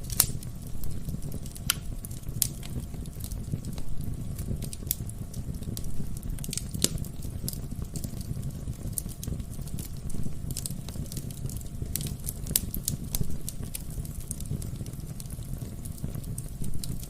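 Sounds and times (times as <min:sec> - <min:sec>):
fire flames rumbling: 0:00.0 - 0:17.0
logs crackling and popping: 0:00.0 - 0:17.0.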